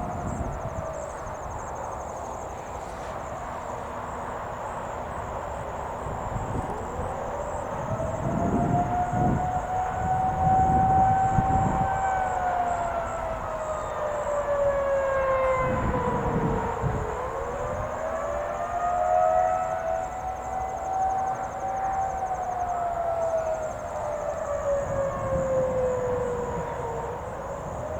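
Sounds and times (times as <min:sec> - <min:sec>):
distant tornado sirens: 0:00.0 - 0:27.9.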